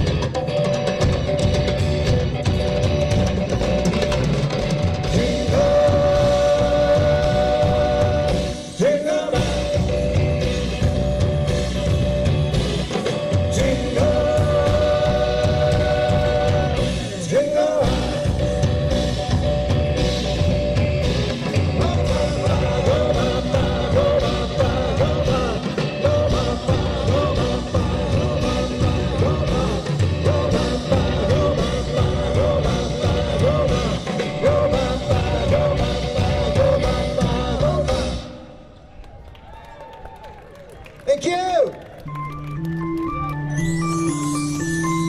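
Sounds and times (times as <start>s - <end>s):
drum kit and percussion: 0.0s - 38.5s
rock band playing live: 0.0s - 38.5s.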